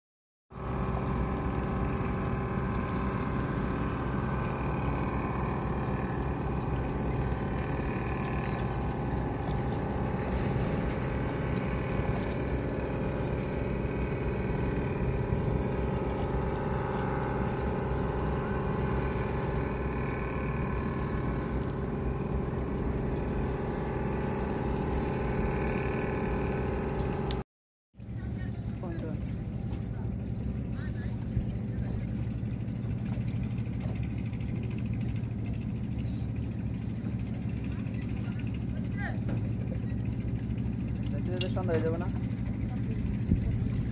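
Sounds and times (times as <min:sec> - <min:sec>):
boat engine drone: 0:00.5 - 0:27.4, 0:28.0 - 0:43.9.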